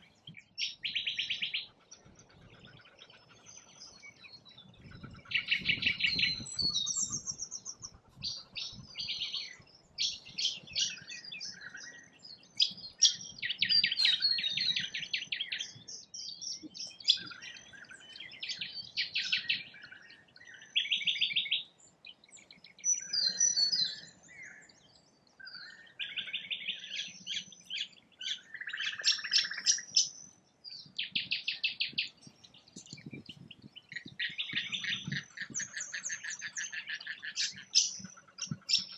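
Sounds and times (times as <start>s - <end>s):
birds chattering trills: 0.0s - 21.5s, 25.4s - 38.9s
birds chirping: 0.0s - 38.9s.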